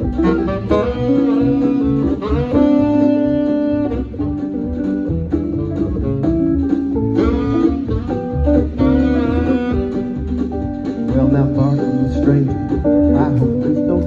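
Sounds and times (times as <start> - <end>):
backing band with guitar and bass: 0.0 - 14.0
saxophone melody: 0.0 - 14.0.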